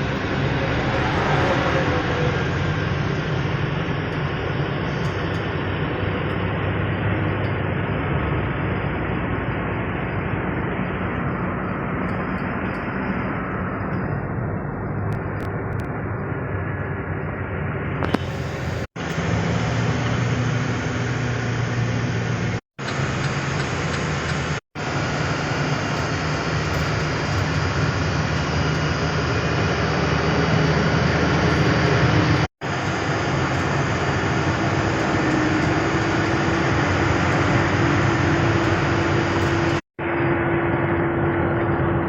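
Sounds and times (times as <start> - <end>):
road noise: 0.0 - 42.0
truck engine hum: 0.0 - 42.0.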